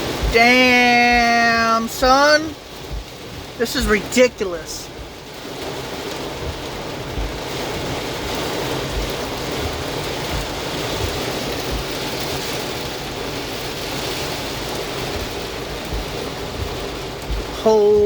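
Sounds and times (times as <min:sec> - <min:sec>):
gusting storm wind: 0:00.0 - 0:18.0
heavy rain: 0:00.0 - 0:18.0
low thumps: 0:00.0 - 0:18.0.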